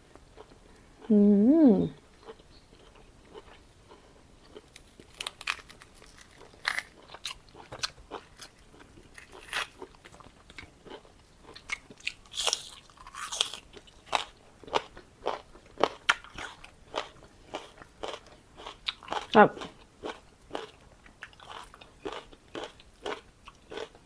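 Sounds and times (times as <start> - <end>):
person chewing crisp food: 0.0 - 1.1, 2.0 - 24.0.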